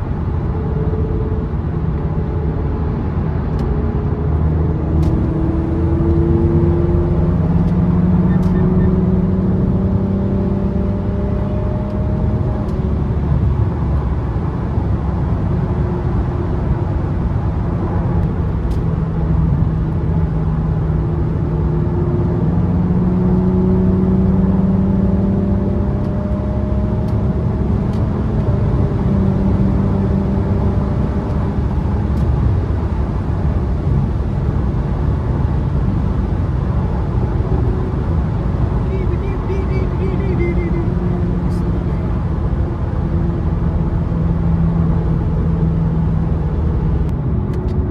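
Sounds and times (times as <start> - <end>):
car engine accelerating: 0.0 - 47.9
road noise rumble: 0.0 - 47.9.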